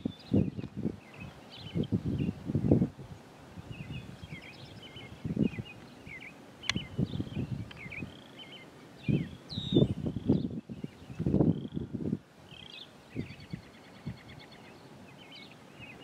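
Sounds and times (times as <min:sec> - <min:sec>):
small birds chirping: 0:00.0 - 0:16.0
wind buffeting microphone: 0:00.0 - 0:16.0.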